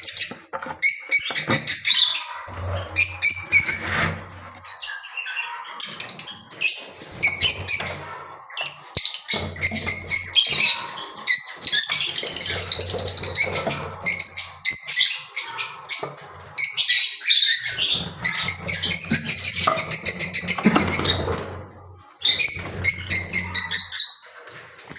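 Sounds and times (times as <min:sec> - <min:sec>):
lovebirds chirping and squawking: 0:00.0 - 0:24.9.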